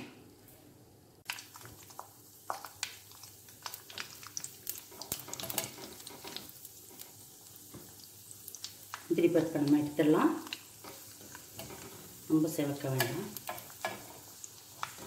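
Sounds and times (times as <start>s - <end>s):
nuts sizzling in hot oil: 1.2s - 15.0s
spatula stirring: 1.4s - 9.0s, 10.5s - 15.0s.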